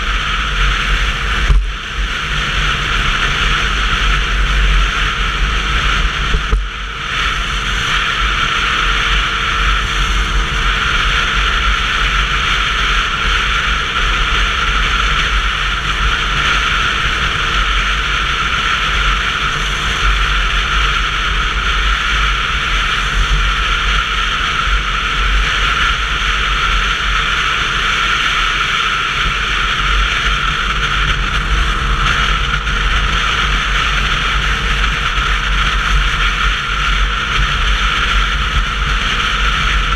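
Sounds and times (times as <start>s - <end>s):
motorcycle riding: 0.0s - 39.9s
wind and road noise: 0.0s - 39.9s
wind buffeting camera: 0.0s - 39.9s.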